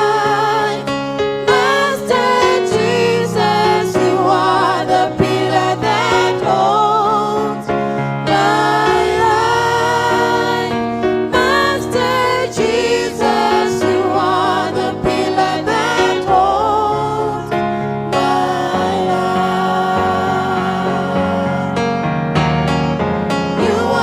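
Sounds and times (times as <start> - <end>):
gospel choir singing: 0.0 - 22.2, 23.0 - 24.0.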